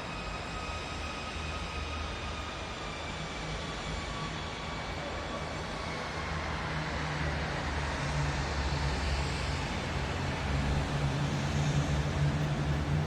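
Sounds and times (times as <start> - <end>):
moving vehicle rumble and hiss: 0.0 - 13.0.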